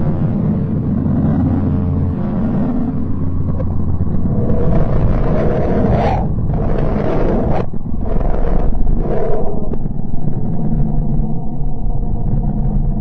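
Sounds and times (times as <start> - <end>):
low rumbling droning noise: 0.0 - 13.0.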